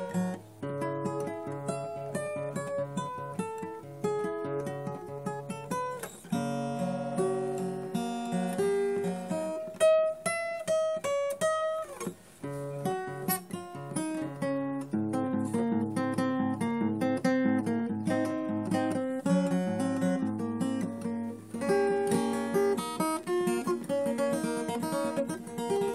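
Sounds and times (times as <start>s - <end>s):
acoustic guitar music: 0.0s - 25.9s.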